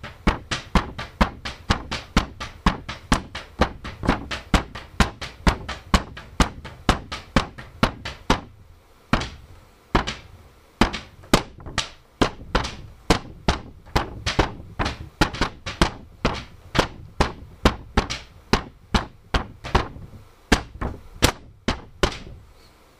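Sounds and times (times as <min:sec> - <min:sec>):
percussion beat on paper: 0:00.0 - 0:22.4.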